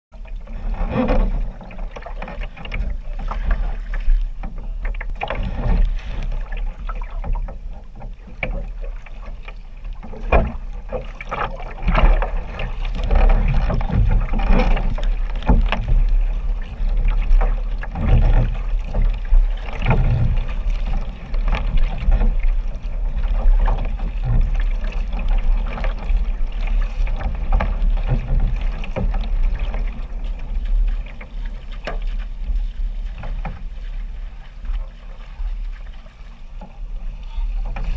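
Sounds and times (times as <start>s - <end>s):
water splashing against kayak hull: 0.1s - 37.9s
paddle strokes slapping water: 0.2s - 37.9s.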